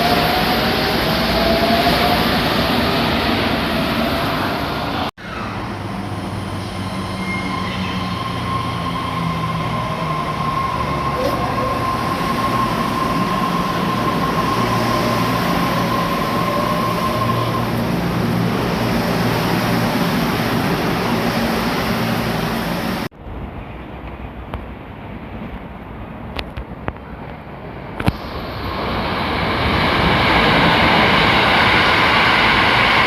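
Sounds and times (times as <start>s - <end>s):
electric train whine: 0.0s - 23.1s, 27.8s - 33.0s.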